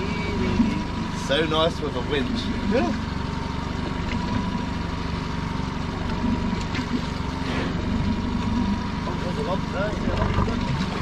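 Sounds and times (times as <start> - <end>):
winch motor humming and whining: 0.0 - 11.0.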